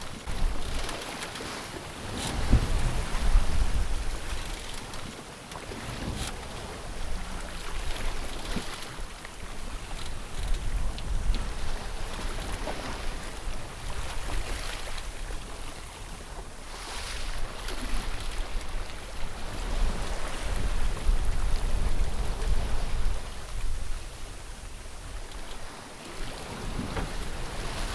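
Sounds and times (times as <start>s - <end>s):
wind buffeting microphone: 0.0s - 4.6s, 5.7s - 25.4s
water rushing along hull: 0.0s - 27.9s.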